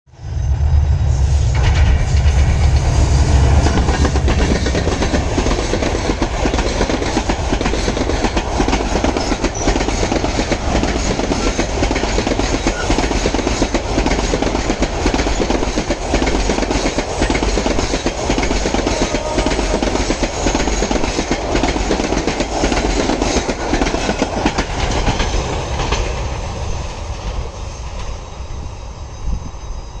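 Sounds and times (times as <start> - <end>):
diesel locomotive passing: 0.1 - 30.0
train wheels clattering over rail joints: 1.5 - 26.4.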